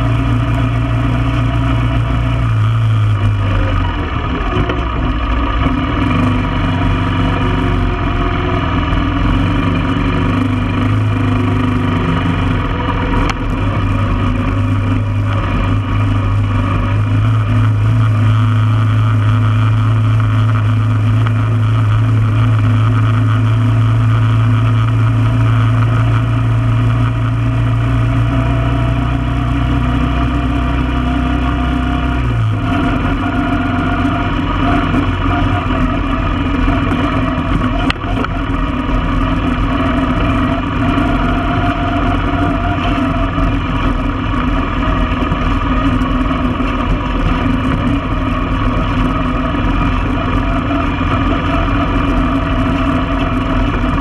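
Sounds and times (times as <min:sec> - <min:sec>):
four-wheeler engine running: 0:00.0 - 0:54.0.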